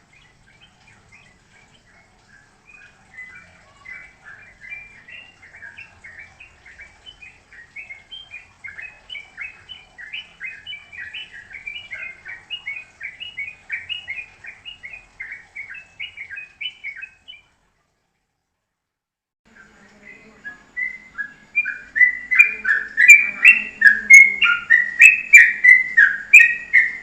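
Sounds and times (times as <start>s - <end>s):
songbird chirping: 0.0s - 17.5s, 19.5s - 27.0s.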